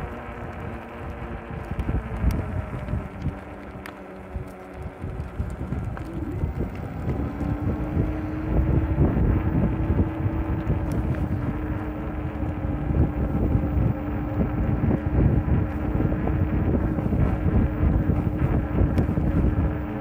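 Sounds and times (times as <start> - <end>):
steady hum: 0.0 - 20.0
wind buffeting microphone: 0.0 - 20.0.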